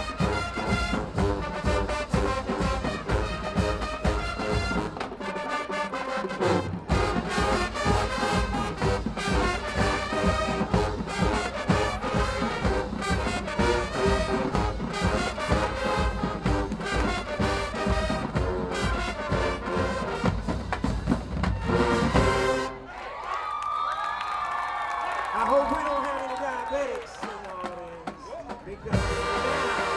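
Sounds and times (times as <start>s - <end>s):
steady drum beat: 0.0s - 5.3s, 6.3s - 22.8s, 27.0s - 29.9s
marching band brass: 0.0s - 23.2s, 24.6s - 29.9s.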